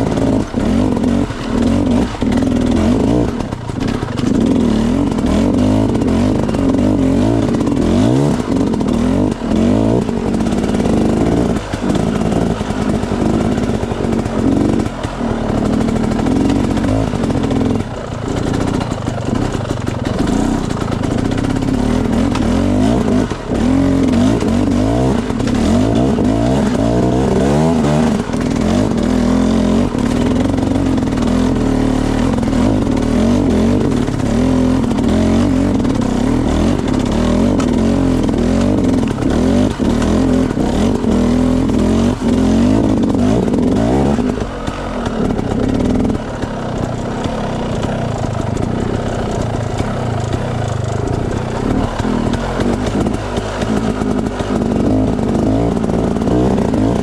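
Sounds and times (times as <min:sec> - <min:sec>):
bike knocking over rough ground: 0:00.0 - 0:57.0
dirt bike engine revving: 0:00.0 - 0:57.0.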